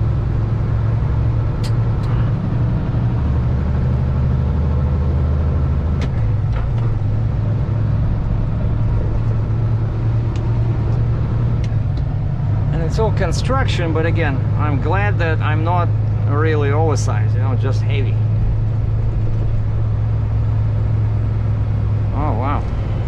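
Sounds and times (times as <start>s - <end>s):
road noise: 0.0s - 23.0s
truck diesel engine drone: 0.0s - 23.0s.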